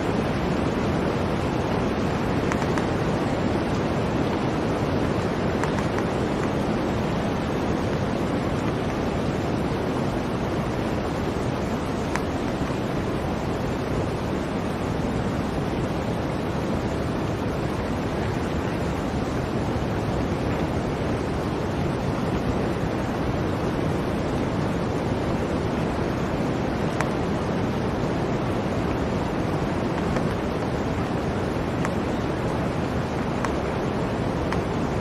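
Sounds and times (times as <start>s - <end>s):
blizzard wind rushing: 0.0s - 35.0s.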